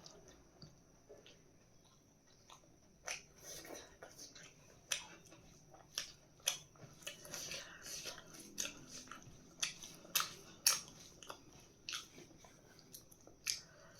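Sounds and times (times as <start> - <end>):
person chewing food: 0.0 - 13.9.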